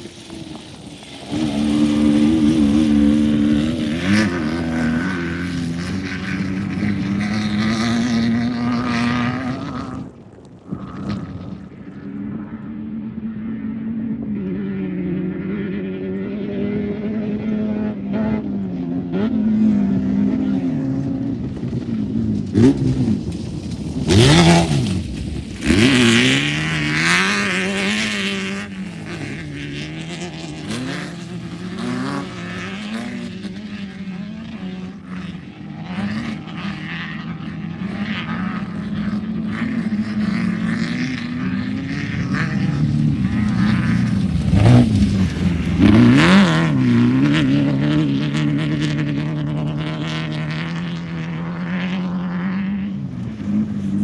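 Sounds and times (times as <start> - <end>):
steady engine drone: 0.0 - 54.0
vehicle engines revving past: 0.0 - 54.0.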